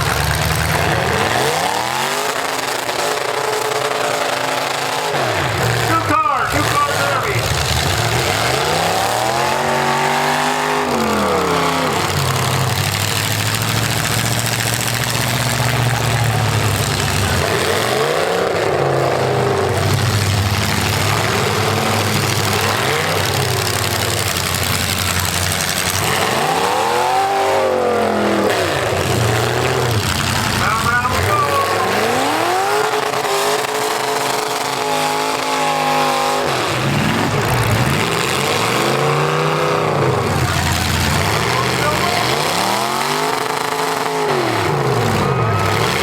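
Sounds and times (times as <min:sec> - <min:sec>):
car engines revving hard: 0:00.0 - 0:46.0.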